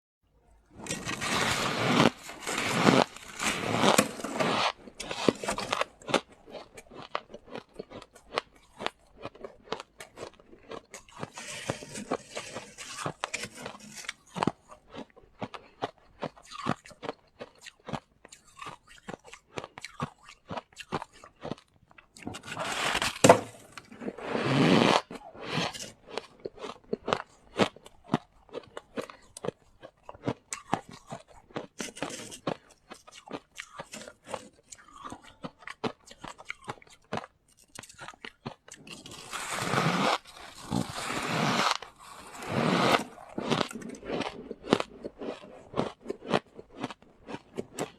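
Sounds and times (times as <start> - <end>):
frost being chewed: 0.6 - 47.9.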